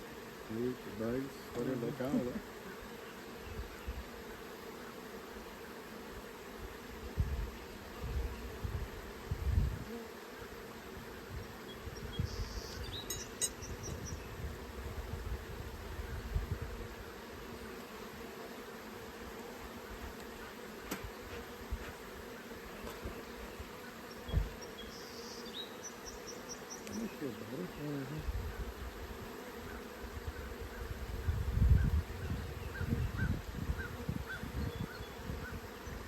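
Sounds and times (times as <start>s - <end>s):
honeybees buzzing: 0.0s - 36.0s.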